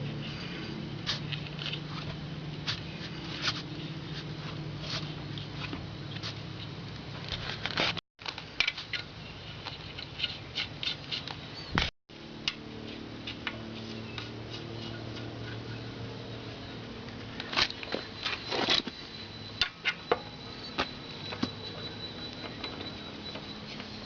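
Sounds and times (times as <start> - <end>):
steady low hum: 0.0 - 7.8, 8.6 - 24.0.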